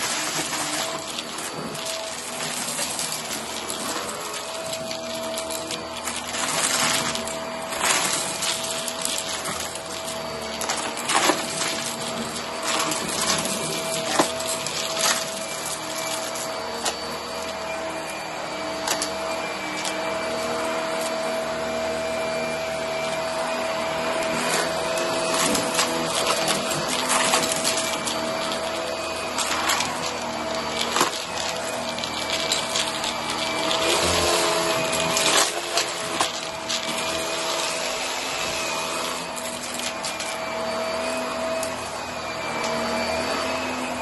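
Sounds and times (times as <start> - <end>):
debris rattling up vacuum nozzle: 0.0 - 44.0
stick vacuum running on carpet: 0.0 - 44.0.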